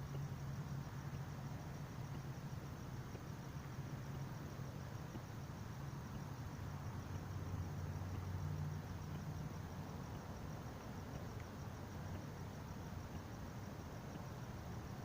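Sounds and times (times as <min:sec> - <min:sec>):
crickets chirping: 0:00.0 - 0:15.0
steady low hum: 0:00.0 - 0:15.0.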